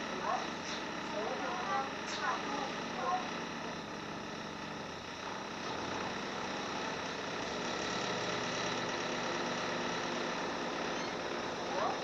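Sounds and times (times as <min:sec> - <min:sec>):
car air conditioning running: 0:00.0 - 0:12.0.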